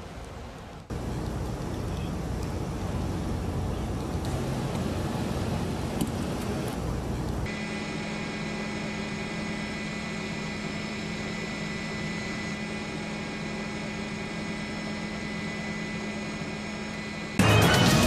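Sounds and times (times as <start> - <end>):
aircraft engine drone: 0.0 - 18.0
high whine: 0.8 - 18.0.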